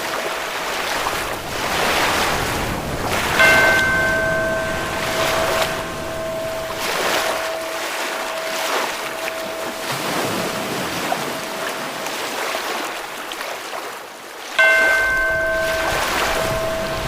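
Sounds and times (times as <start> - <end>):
ocean waves washing: 0.0 - 17.0
bell ringing: 0.9 - 12.2, 14.6 - 17.0.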